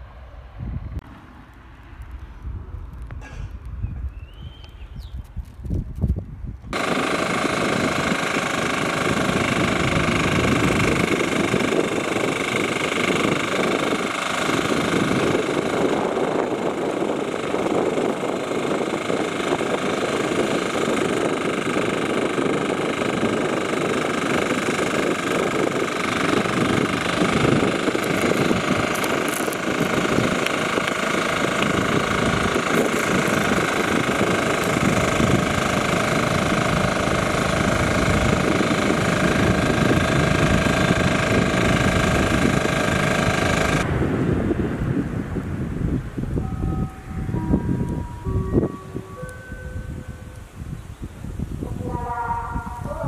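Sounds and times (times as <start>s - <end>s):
tractor engine running: 0.9s - 53.0s.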